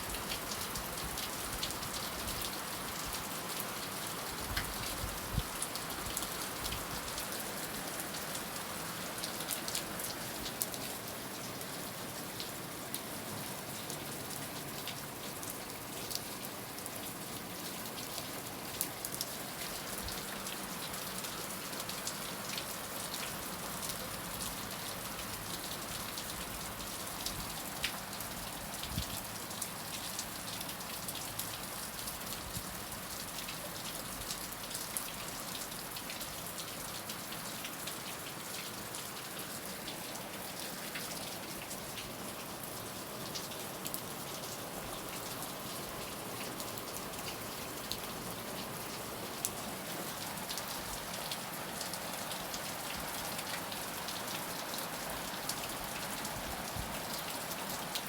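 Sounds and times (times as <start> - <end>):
heavy rain on a hard surface: 0.0 - 58.0.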